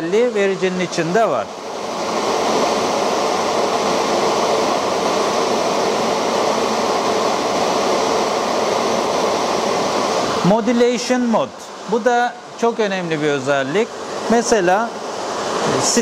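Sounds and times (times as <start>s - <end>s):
cooling fans rushing: 0.0s - 16.0s
faint steady hum: 0.0s - 16.0s.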